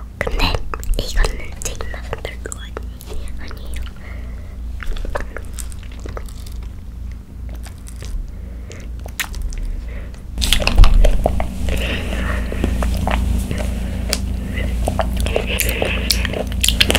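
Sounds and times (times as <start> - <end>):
wet squishy chewing: 0.3 - 16.9.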